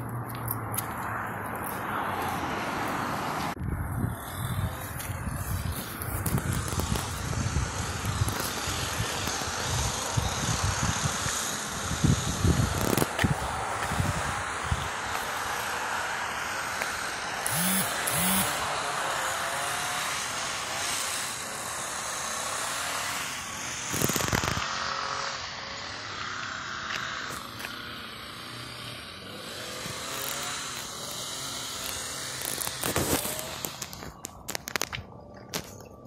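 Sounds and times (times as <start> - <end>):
traffic passing: 0.0 - 36.0.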